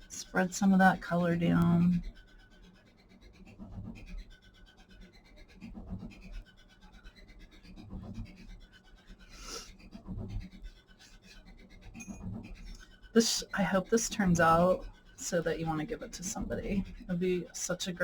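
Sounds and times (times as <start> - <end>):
paintbrush scratching on paper: 0.0 - 18.0.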